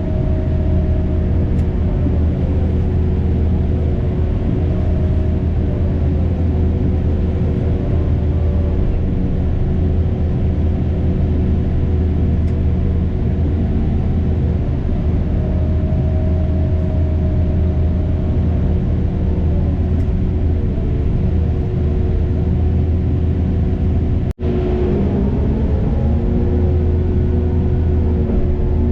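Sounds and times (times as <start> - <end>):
heavy machine engine rumbling: 0.0 - 28.9.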